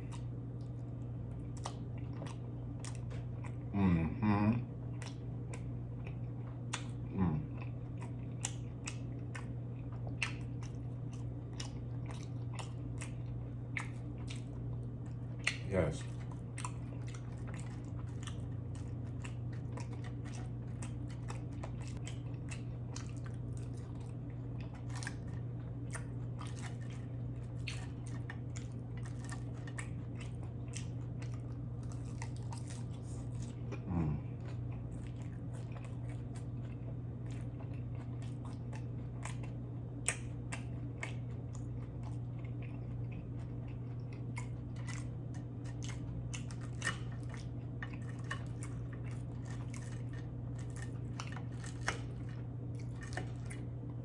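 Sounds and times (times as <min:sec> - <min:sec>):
chewing and biting food: 0:00.0 - 0:04.0, 0:04.6 - 0:54.0
steady low hum: 0:00.0 - 0:54.0.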